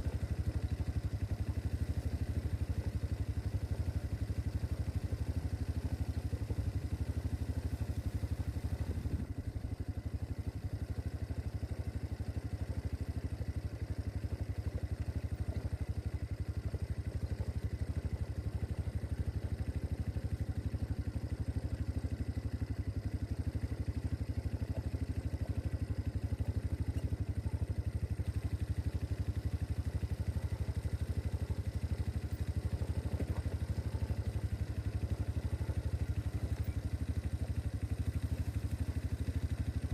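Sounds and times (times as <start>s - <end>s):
quad engine running steadily: 0.0s - 39.9s.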